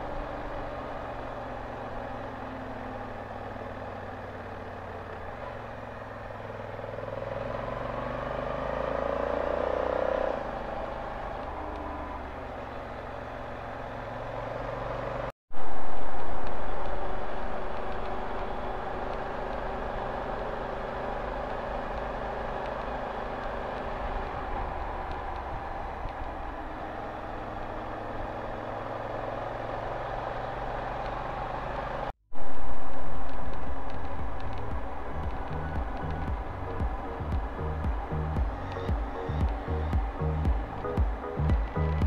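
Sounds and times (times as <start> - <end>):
motorcycle engine: 0.0 - 15.3, 16.0 - 32.2, 33.2 - 42.0
road noise while riding: 0.0 - 42.0.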